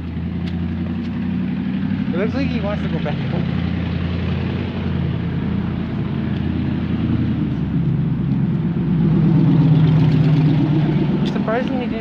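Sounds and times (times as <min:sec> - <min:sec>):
loud car engine running: 0:00.0 - 0:12.0.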